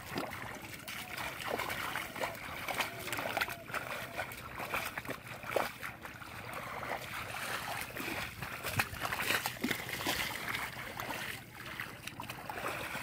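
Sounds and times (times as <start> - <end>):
hands splashing in muddy water: 0.0 - 13.0.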